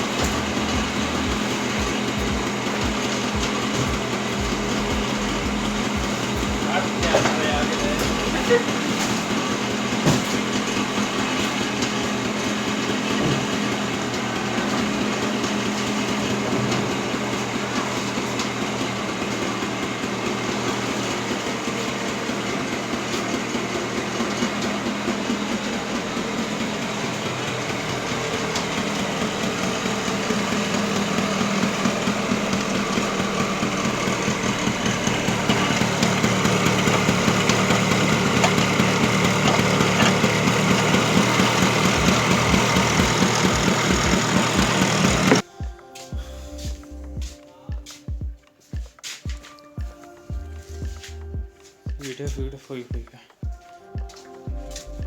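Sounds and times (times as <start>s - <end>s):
scooter engine running: 0.0s - 55.0s.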